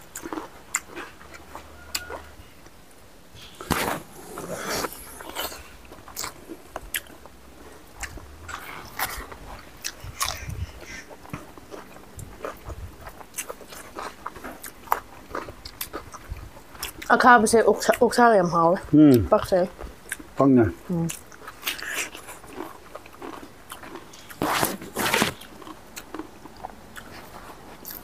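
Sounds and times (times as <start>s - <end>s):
people chewing and biting: 0.0s - 2.8s, 3.4s - 28.0s.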